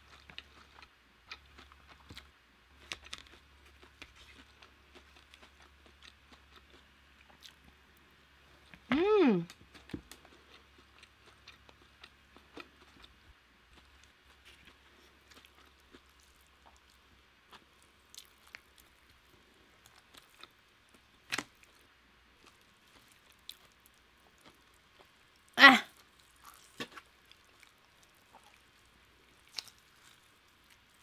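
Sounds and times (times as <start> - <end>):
wet mouth clicks and chewing: 0.0 - 7.8, 9.5 - 20.6, 22.4 - 31.0.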